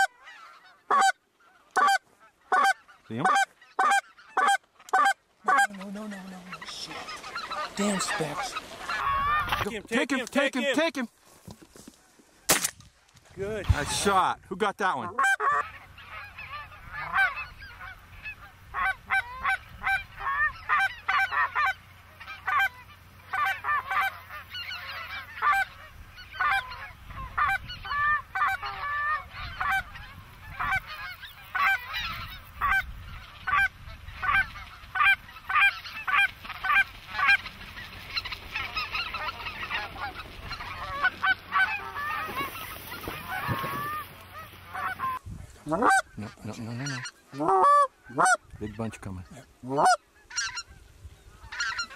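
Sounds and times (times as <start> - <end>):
geese honking: 0.0 - 11.1, 14.8 - 51.9.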